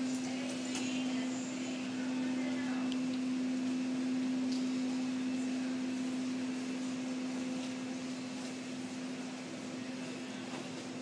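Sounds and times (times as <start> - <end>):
constant low mechanical tone: 0.0 - 11.0
ventilation rushing noise: 0.0 - 11.0.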